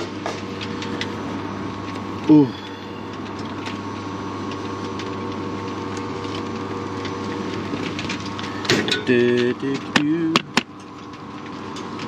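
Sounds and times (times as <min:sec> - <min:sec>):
espresso machine pump humming: 0:00.0 - 0:12.0.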